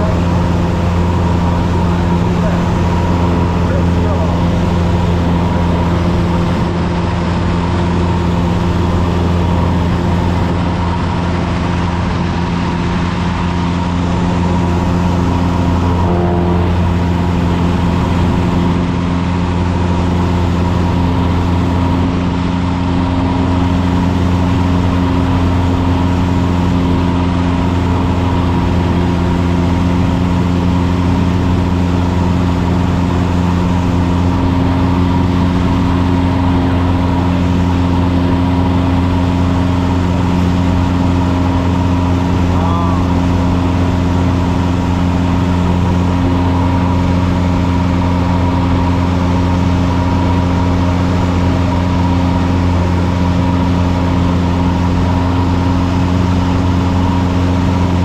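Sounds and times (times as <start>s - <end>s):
airplane engine and propeller droning: 0.0s - 58.0s.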